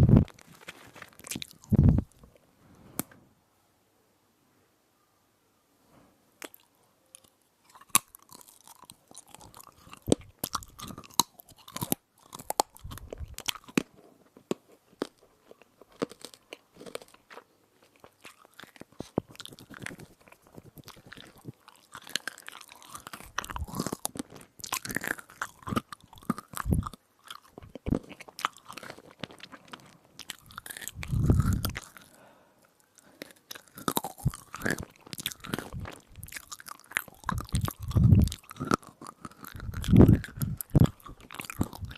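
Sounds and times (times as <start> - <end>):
crunchy chewing: 0.0 - 2.4, 6.4 - 41.9.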